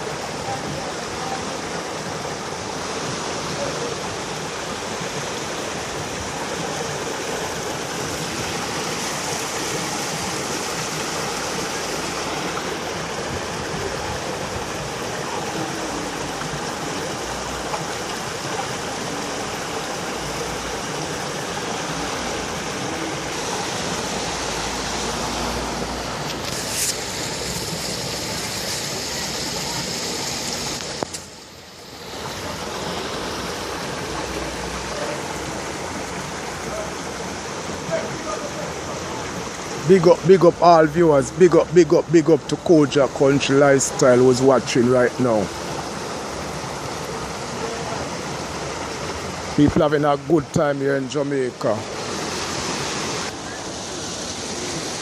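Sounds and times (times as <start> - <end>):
seawater rushing at shore: 0.0 - 55.0.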